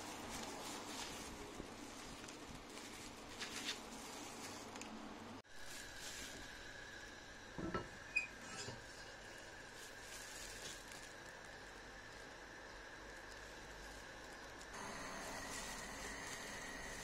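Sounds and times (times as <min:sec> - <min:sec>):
water heating hiss: 0:00.0 - 0:02.7, 0:04.8 - 0:17.0.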